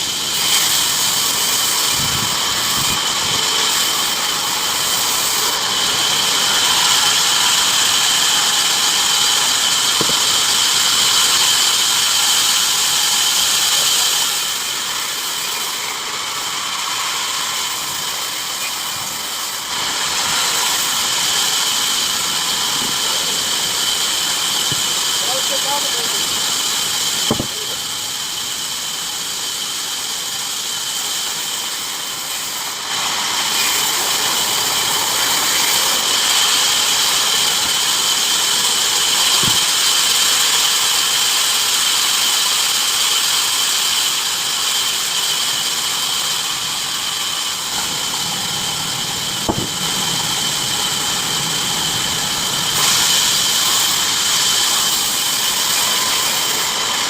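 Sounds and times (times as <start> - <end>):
bandsaw mill cutting wood: 0.0 - 57.0.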